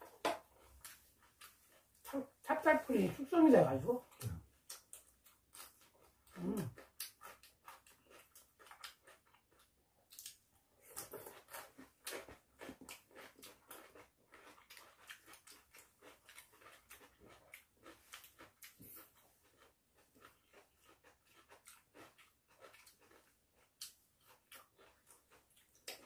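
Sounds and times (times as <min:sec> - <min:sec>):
wet chewing clicks and smacks: 0:00.1 - 0:02.4, 0:04.0 - 0:26.0.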